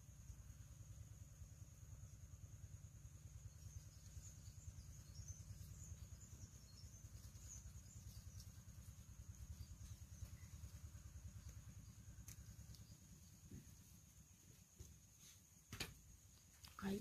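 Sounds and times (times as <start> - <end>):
low background rumble: 0.0 - 15.2.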